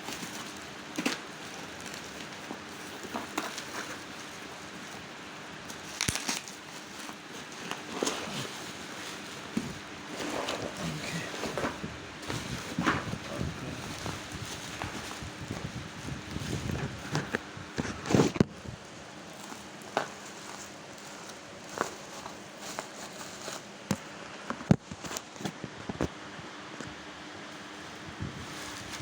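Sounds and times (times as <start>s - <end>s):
packaging rustling: 0.0s - 24.0s.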